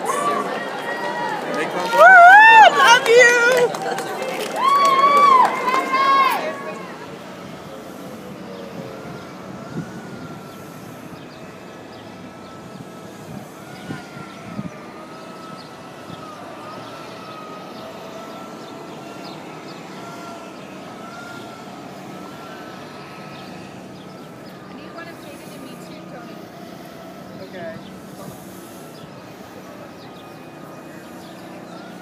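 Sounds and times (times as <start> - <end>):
emergency siren wailing: 0.0 - 32.0
street noise: 0.0 - 32.0.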